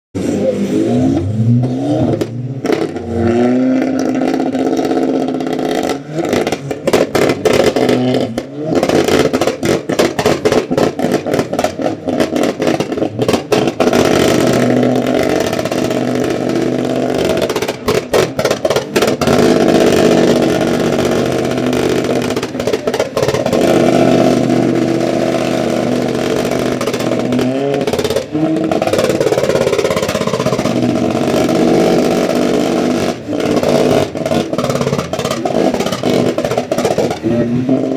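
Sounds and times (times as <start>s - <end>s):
vehicle engine revving: 0.1s - 37.9s.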